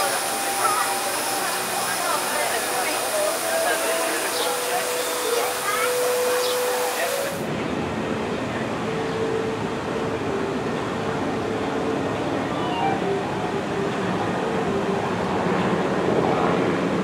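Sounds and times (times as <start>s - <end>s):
constant rush: 0.0s - 17.0s.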